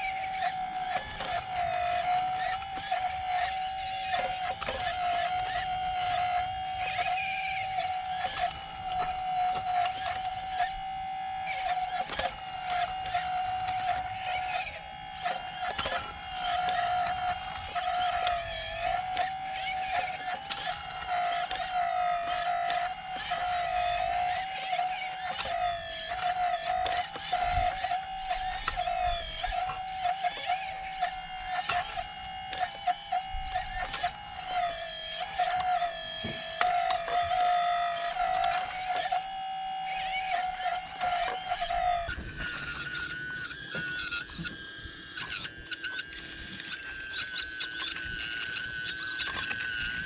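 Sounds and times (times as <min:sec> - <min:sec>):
hydraulic pump motor whining: 0:00.0 - 0:50.0.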